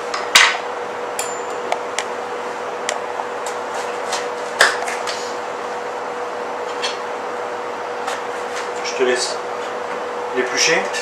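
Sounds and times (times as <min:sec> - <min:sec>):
kitchen machinery humming: 0:00.0 - 0:11.0.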